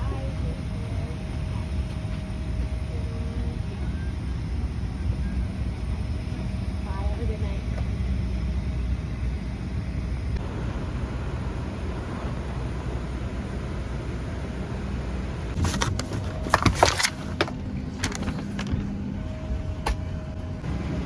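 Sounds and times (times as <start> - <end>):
airliner low rumble: 0.0 - 21.0.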